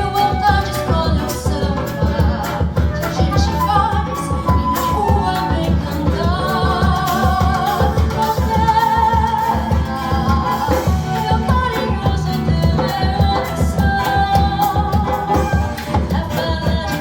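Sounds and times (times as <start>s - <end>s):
samba music: 0.0s - 17.0s.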